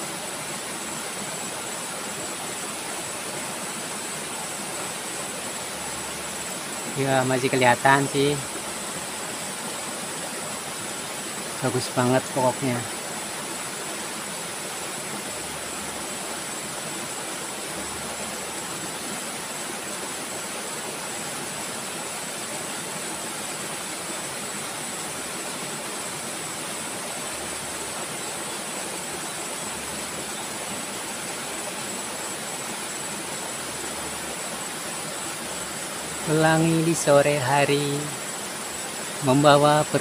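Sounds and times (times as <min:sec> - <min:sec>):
river rushing: 0:00.0 - 0:40.0.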